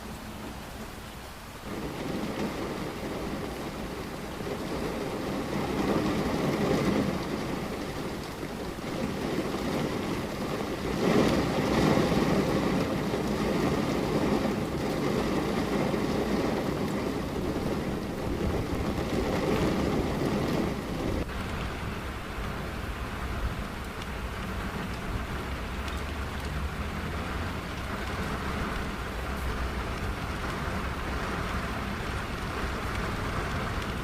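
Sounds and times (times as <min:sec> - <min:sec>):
steady rain: 0:00.0 - 0:34.0
low rolling thunder: 0:01.6 - 0:34.0.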